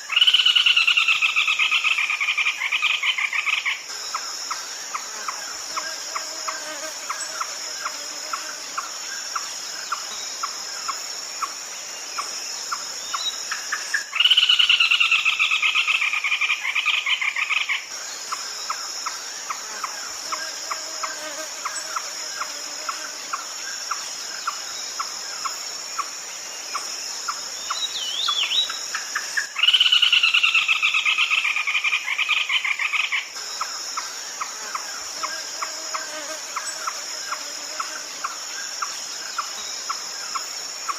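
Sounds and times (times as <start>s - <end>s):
high-pitched insect drone: 0.0s - 40.9s.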